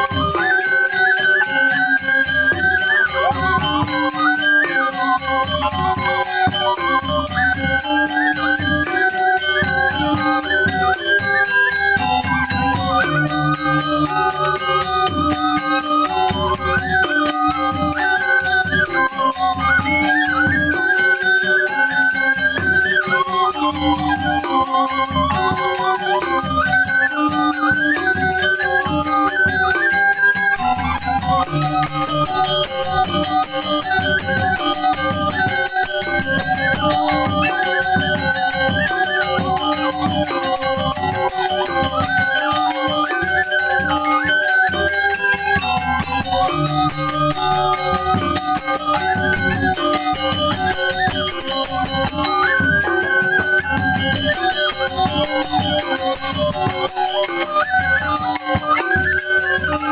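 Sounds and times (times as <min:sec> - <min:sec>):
gamelan music: 0:00.0 - 0:59.9.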